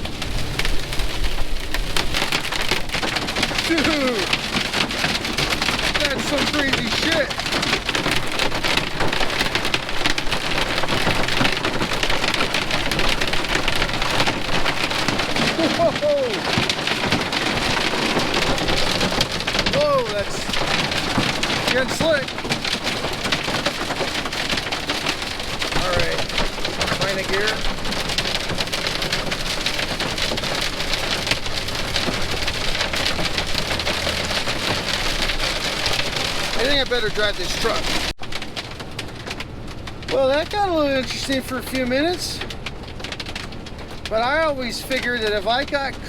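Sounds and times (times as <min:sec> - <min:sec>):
rain and hail drumming on truck cab: 0:00.0 - 0:46.0.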